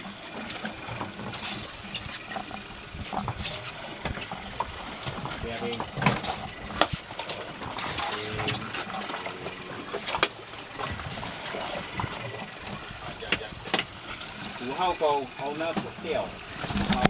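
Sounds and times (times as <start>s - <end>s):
water splashing against boat hull: 0.0s - 17.0s.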